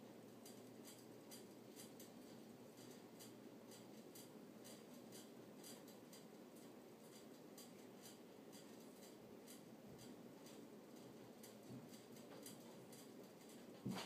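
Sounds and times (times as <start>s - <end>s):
faint ticks: 0.3s - 13.8s.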